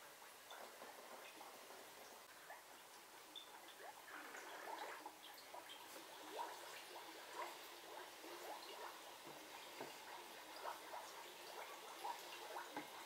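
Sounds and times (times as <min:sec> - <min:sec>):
water dripping: 0:00.0 - 0:13.0.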